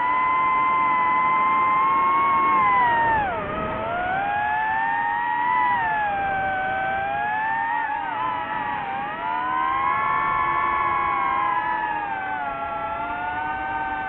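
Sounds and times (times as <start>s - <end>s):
drone propeller motors whining: 0.0s - 14.0s.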